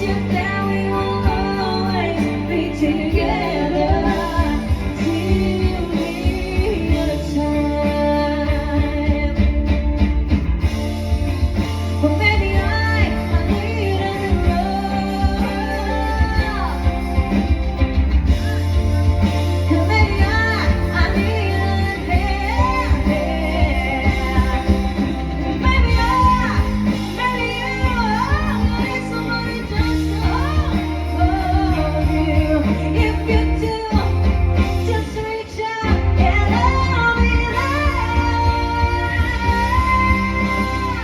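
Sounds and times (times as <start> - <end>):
person singing: 0.0 - 10.0, 12.0 - 41.0
live band playing: 0.0 - 41.0
steady bass: 0.0 - 41.0.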